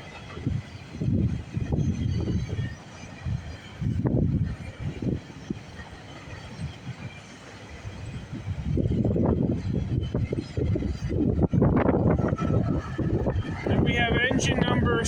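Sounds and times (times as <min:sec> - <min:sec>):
train coaches rumbling past: 0:00.0 - 0:15.0.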